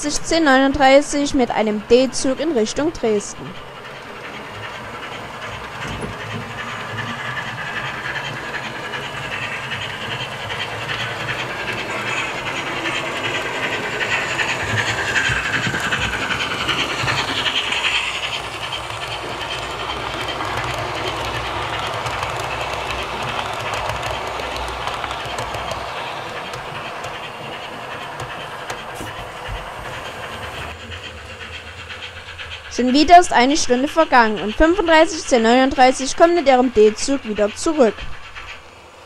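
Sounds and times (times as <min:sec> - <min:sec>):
model train rumble and rail clatter: 0:00.0 - 0:39.0.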